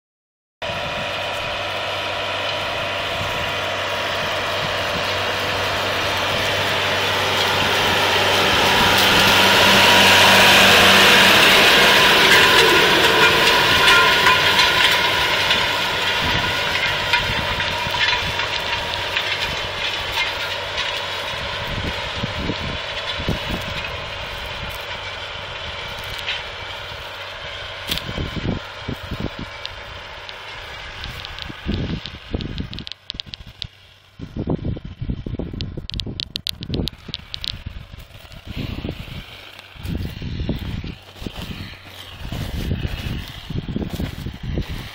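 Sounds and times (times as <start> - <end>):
tractor engine: 0.6 - 44.9
discs cutting soil: 1.0 - 34.1, 35.6 - 44.9
sharp crackles: 4.2 - 34.1, 35.6 - 44.9.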